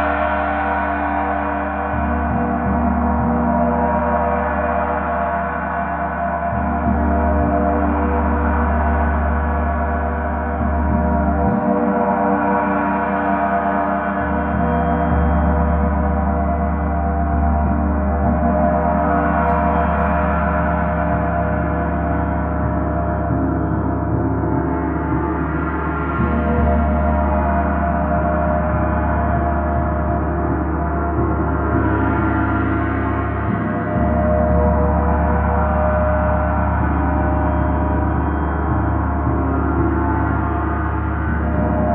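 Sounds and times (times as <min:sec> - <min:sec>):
deep low hum: 0:00.0 - 0:41.9.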